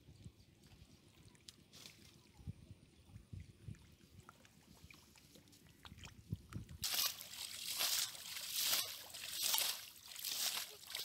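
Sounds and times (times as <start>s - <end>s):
muddy water sloshing and splashing: 0.6s - 11.0s.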